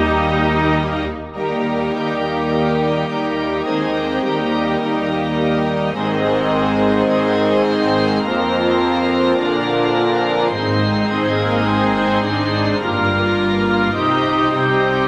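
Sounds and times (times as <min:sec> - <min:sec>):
hymn tune in held chords: 0:00.0 - 0:15.0.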